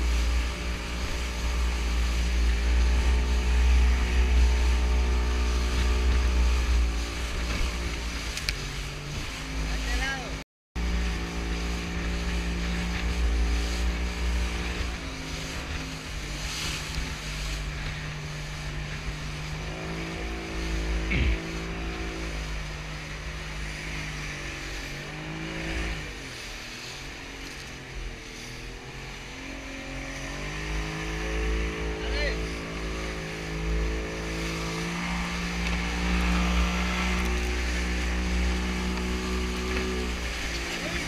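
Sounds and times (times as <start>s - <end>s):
outboard motor: 0.0s - 41.0s
wind rumble: 0.0s - 41.0s.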